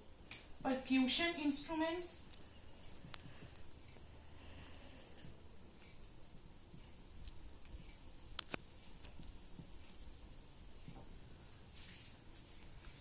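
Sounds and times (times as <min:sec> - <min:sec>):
insect chirping trill: 0:00.0 - 0:13.0.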